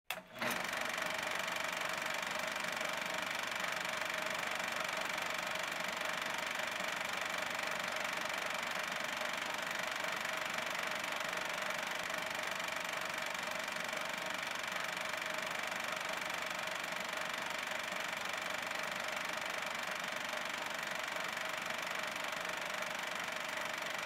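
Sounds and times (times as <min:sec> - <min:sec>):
film projector whirring: 0:00.1 - 0:24.0.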